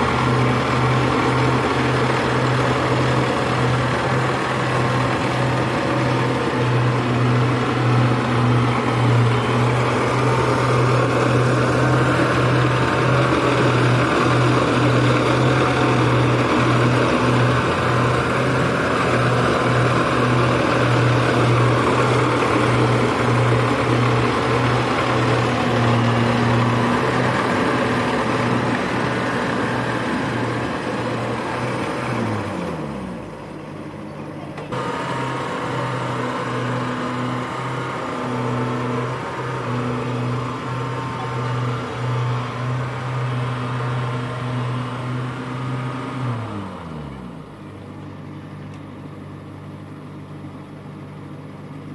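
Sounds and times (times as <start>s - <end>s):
harvesting machine engine running: 0.0s - 51.9s.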